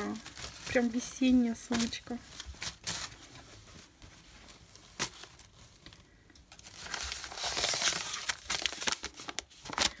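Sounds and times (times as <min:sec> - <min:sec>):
paper packets rustling: 0:00.0 - 0:10.0.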